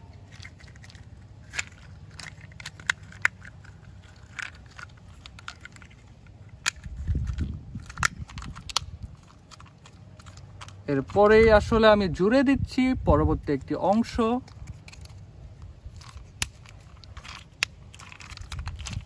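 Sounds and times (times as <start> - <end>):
plastic rubbing and handling: 0.0 - 12.4, 13.3 - 19.0
plastic toy parts clicking: 0.1 - 11.4, 13.5 - 19.0.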